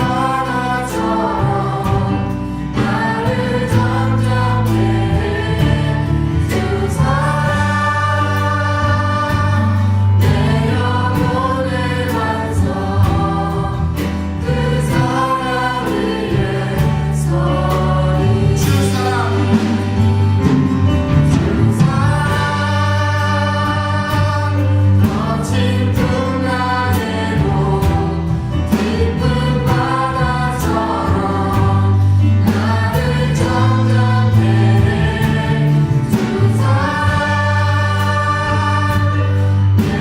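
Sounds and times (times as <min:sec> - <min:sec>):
bass guitar: 0:00.0 - 0:40.0
drums: 0:00.0 - 0:40.0
group singing worship song: 0:00.0 - 0:40.0.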